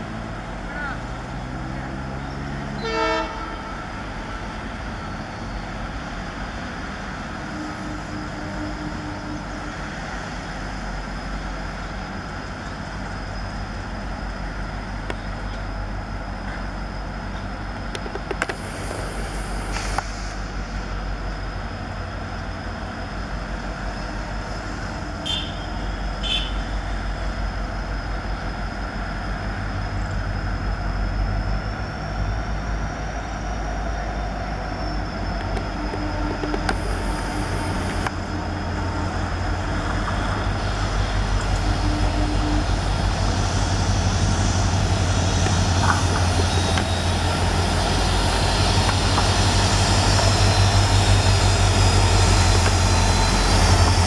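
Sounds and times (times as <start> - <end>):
diesel locomotive engines rumbling: 0.0 - 54.0
thin high whine: 2.4 - 54.0.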